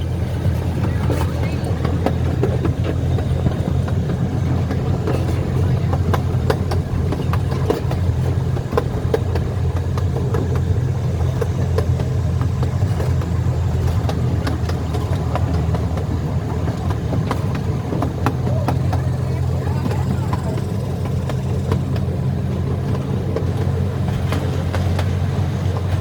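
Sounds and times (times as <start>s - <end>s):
train engine drone: 0.0s - 26.0s
wheels clicking and knocking: 0.0s - 26.0s.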